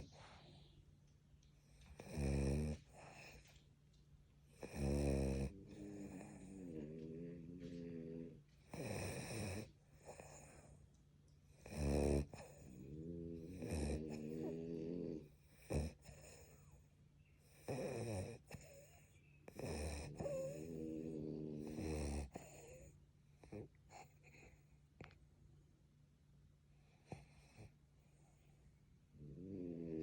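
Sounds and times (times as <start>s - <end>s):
dogs snoring: 1.6s - 3.6s, 4.5s - 10.9s, 11.5s - 25.2s, 26.8s - 30.0s.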